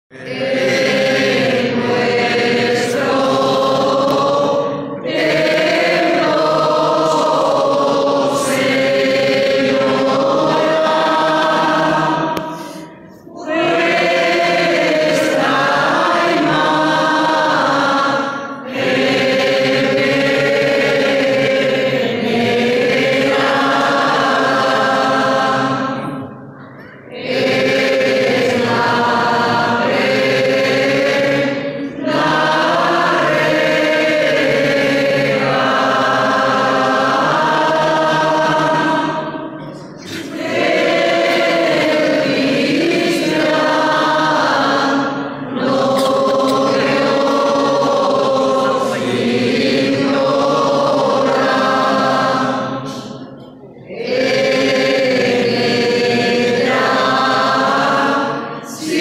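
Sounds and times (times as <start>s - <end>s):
congregation singing a hymn: 0.1s - 59.0s.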